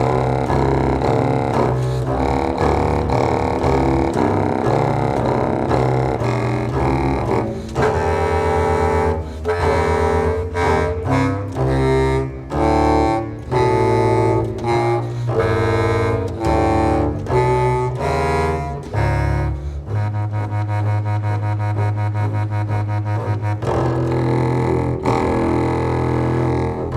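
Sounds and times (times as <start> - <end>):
clarinet and double bass music: 0.0 - 26.9.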